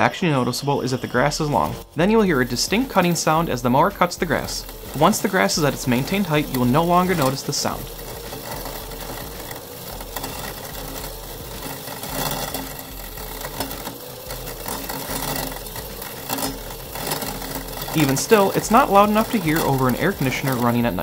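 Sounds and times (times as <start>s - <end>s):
robotic lawn mower cutting grass: 0.0s - 21.0s.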